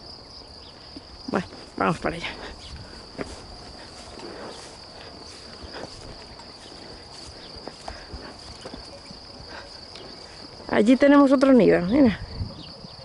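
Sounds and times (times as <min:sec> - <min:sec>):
high-pitched insect chorus: 0:00.0 - 0:13.0
horse hooves thudding on grass: 0:01.0 - 0:11.8.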